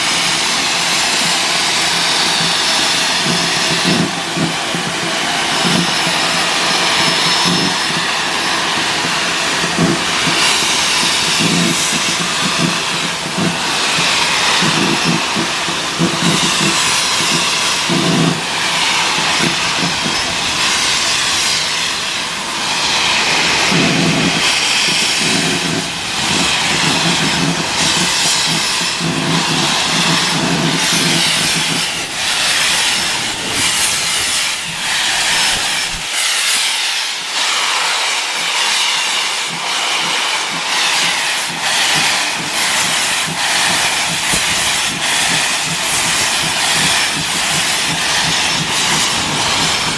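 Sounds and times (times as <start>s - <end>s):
hissing steam: 0.0s - 49.9s
steam locomotive exhaust beats: 0.0s - 49.9s.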